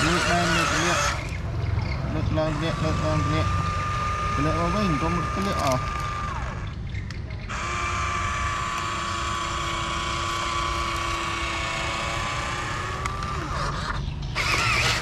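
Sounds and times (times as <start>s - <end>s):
electric motor whining: 0.0s - 6.8s, 7.5s - 15.0s.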